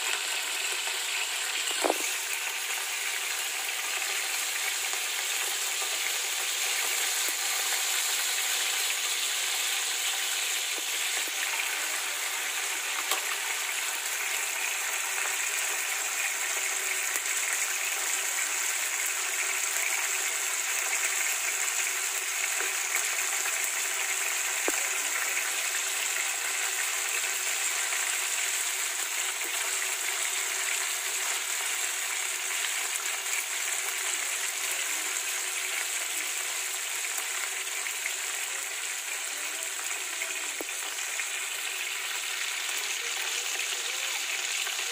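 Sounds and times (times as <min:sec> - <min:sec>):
fish sizzling in a frying pan: 0:00.0 - 0:44.9.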